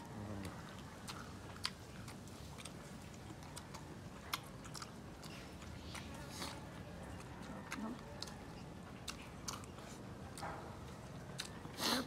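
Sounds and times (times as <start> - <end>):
chewing and eating: 0.0 - 12.0.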